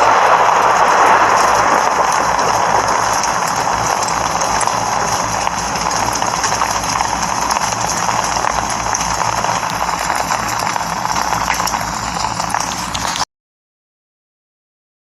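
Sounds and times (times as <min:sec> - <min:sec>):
rain falling: 0:00.0 - 0:13.3.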